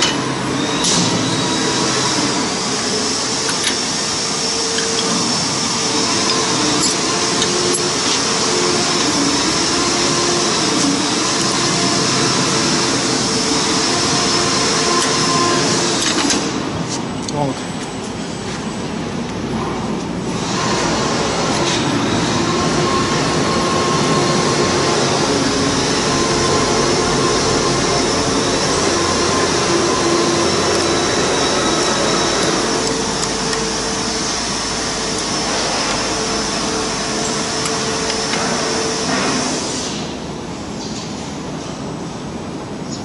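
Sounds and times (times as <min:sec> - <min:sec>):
workshop motor running with hiss: 0:00.0 - 0:43.0.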